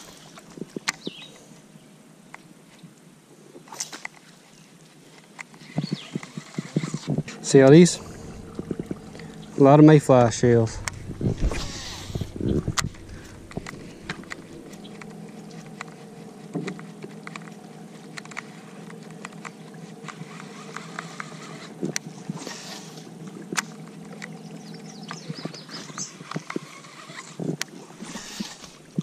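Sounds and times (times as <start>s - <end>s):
electric trolling motor humming: 5.6s - 29.0s.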